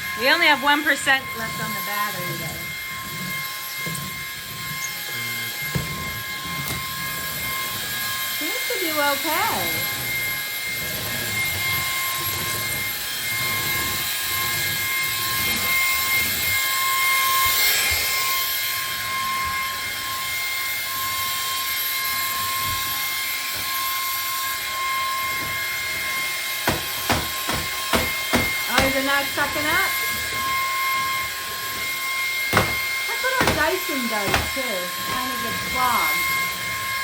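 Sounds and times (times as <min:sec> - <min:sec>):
stick vacuum running: 0:00.0 - 0:37.0.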